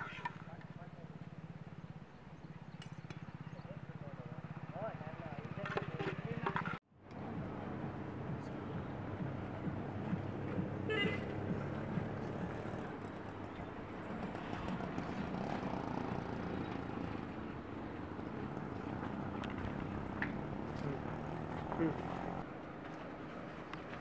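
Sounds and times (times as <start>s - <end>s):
engine running: 0.6s - 22.5s.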